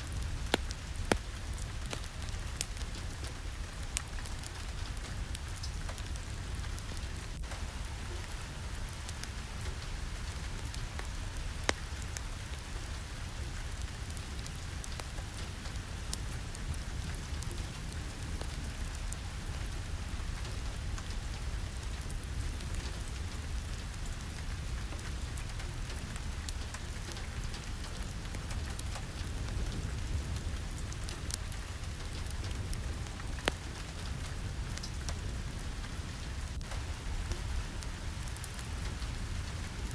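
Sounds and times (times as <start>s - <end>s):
sharp raindrop ticks: 0.0s - 39.9s
steady rain falling: 0.0s - 39.9s.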